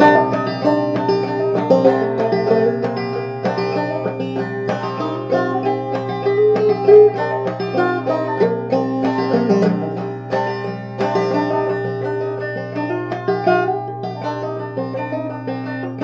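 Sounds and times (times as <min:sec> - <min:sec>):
banjo plucked notes: 0:00.0 - 0:16.0.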